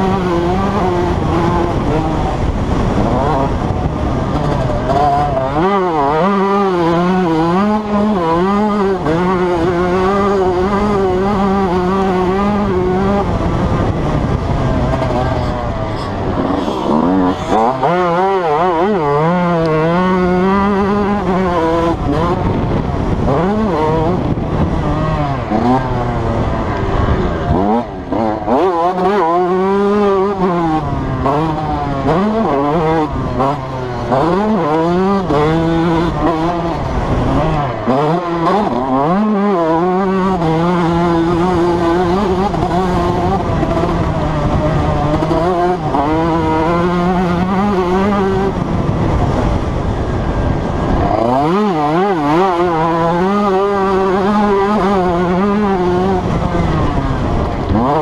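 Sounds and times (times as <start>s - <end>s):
motocross engine revving: 0.0s - 58.0s.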